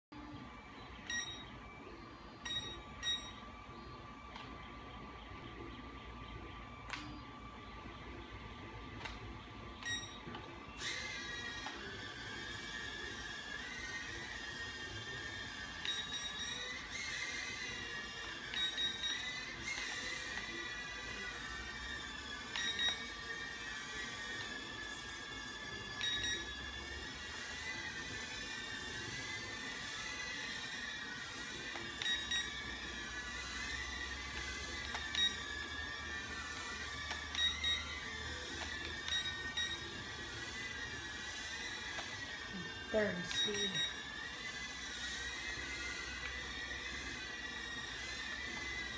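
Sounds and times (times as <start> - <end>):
quadcopter motors whining: 0.2 - 48.9.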